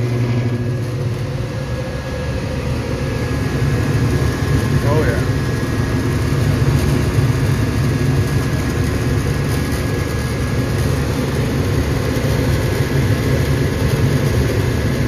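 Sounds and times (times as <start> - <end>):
gas furnace burners rumbling: 0.0 - 15.0.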